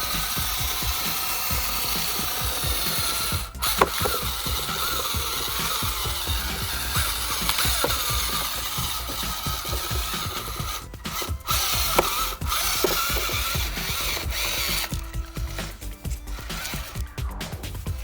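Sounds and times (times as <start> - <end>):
electric motor whirring: 0.0 - 18.0
ratchety gear clicks: 0.0 - 18.0.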